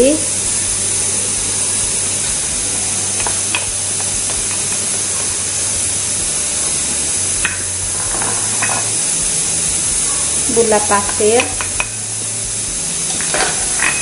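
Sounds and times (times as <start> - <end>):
high hiss: 0.0 - 14.0.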